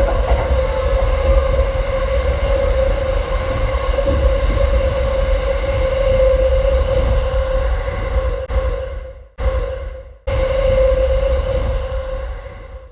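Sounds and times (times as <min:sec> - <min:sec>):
train rumbling with whine: 0:00.0 - 0:12.9.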